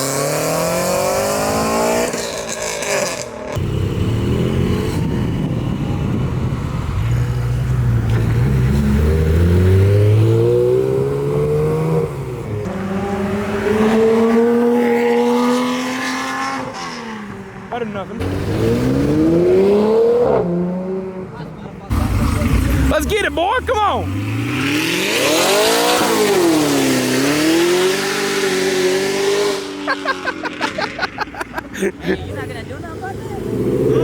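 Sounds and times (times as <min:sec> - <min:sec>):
deep loud engine revving: 0:00.0 - 0:16.6, 0:18.2 - 0:21.2, 0:21.9 - 0:29.9, 0:33.2 - 0:34.0
performance cars accelerating: 0:00.0 - 0:34.0.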